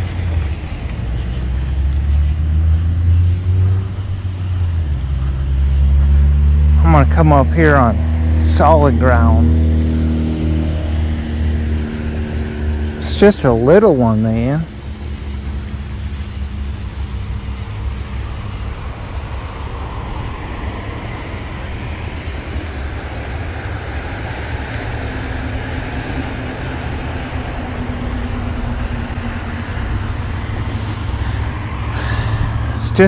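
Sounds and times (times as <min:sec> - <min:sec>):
cars passing: 0:00.0 - 0:33.0.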